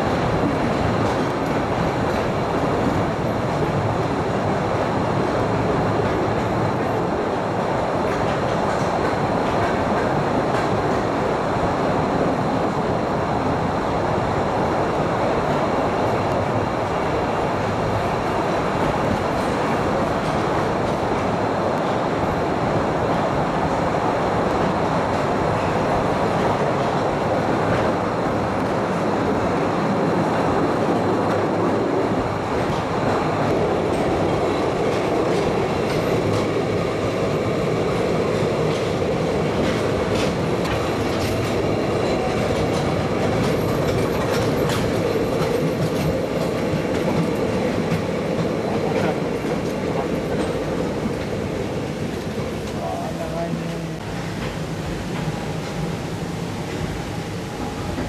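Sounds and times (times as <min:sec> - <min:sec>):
train wheels rattling on rails: 0:00.0 - 0:58.0.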